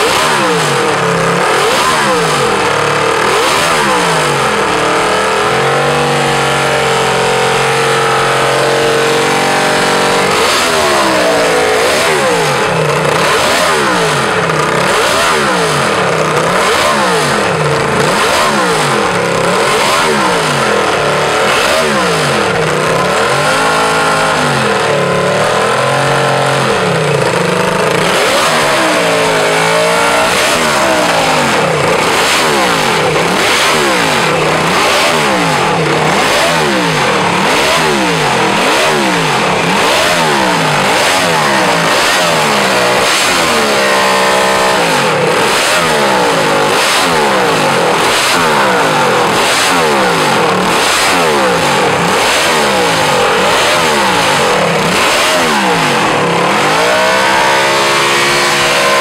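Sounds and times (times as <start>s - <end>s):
racing engine revving: 0.0s - 59.0s.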